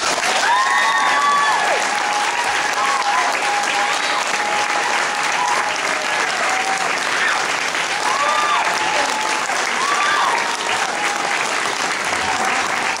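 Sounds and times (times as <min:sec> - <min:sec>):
audience applauding: 0:00.0 - 0:13.0
whooping cheers: 0:00.0 - 0:13.0.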